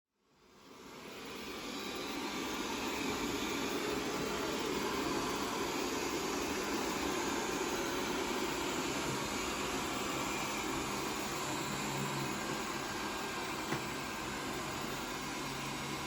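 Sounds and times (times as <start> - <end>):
robot vacuum whirring: 0.8 - 16.0.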